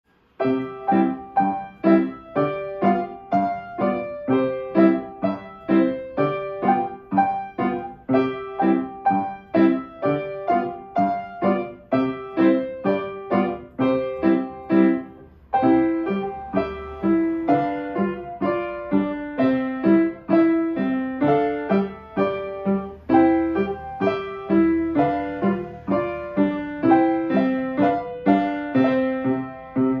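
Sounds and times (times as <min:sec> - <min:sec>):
grand piano piece: 0:00.1 - 0:30.0.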